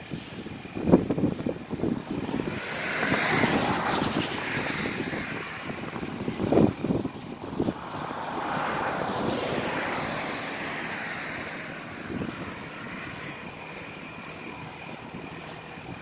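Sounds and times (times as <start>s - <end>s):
vehicle passing on road: 0.0s - 16.0s.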